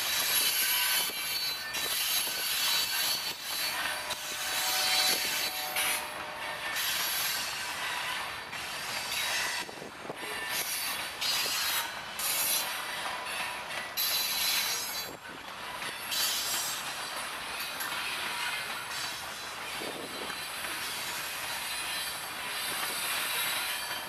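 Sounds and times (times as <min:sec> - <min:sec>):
train wheels clattering over rails: 0:00.0 - 0:24.0.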